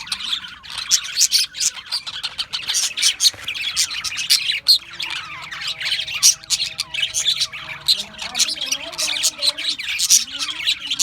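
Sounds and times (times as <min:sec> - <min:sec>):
budgerigars chirping and squawking: 0:00.0 - 0:11.0.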